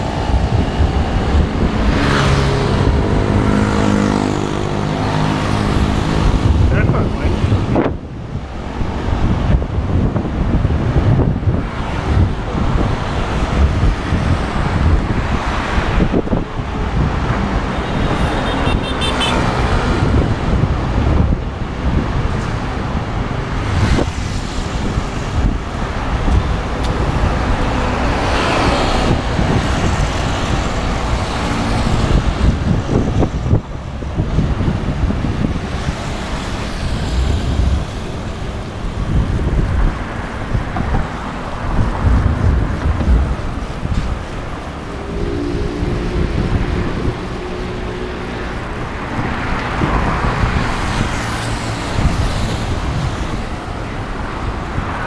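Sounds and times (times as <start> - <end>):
cars passing close by: 0.0 - 55.0
wind rumble on microphone: 0.0 - 55.0.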